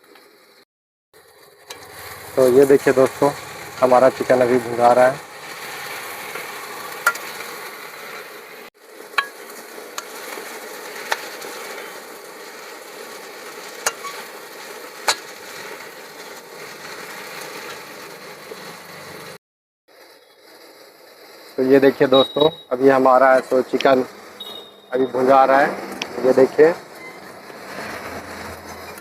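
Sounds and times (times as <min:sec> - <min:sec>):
chicken sizzling in oil: 0:01.2 - 0:29.0.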